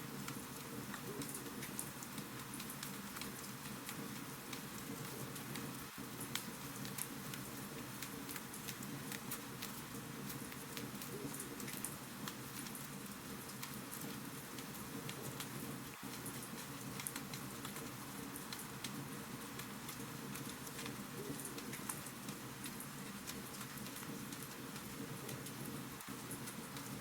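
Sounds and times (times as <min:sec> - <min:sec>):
wood fire crackling: 0:00.1 - 0:27.0.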